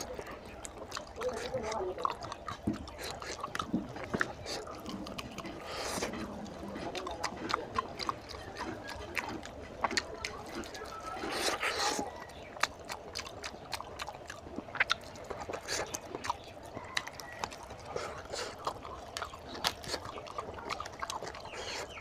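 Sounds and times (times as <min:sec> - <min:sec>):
wet chewing and lip-smacking: 0:00.0 - 0:22.0.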